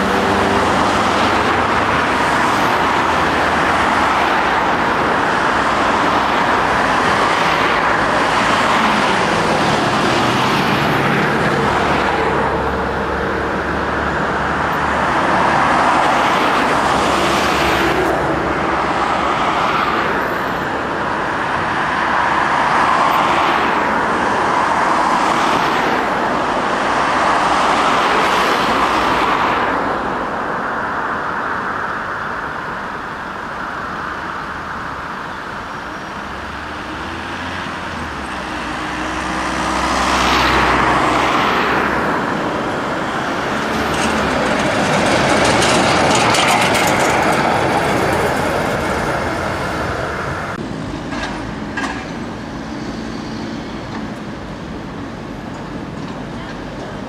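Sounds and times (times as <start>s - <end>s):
cars passing: 0.0s - 57.0s
rush of tyres and engines: 0.0s - 57.0s.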